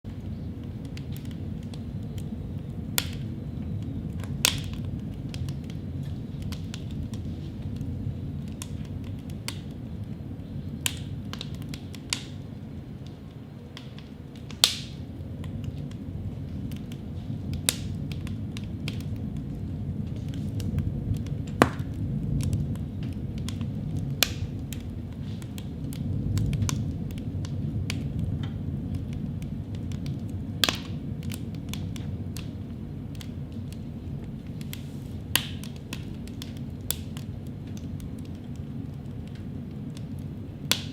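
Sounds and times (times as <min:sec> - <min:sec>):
steady low rumble: 0:00.0 - 0:40.9.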